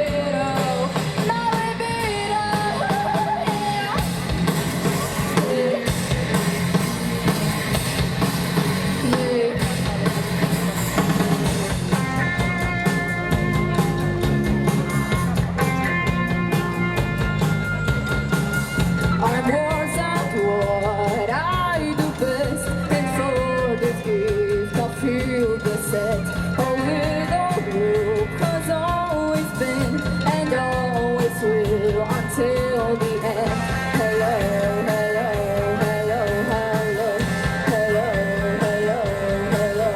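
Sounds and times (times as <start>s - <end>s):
live rock band playing: 0.0s - 39.9s
pitch-bending lead melody: 0.0s - 39.9s.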